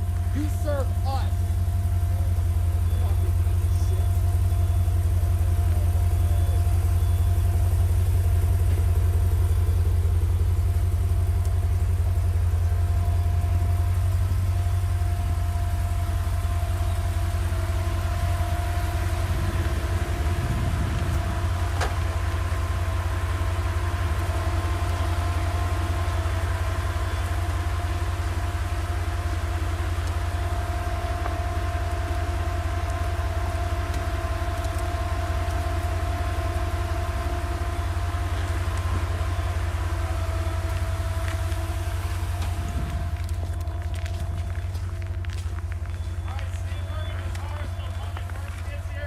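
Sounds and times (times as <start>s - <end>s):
faint steady tone: 0.0s - 48.9s
car engines idling: 0.0s - 49.0s.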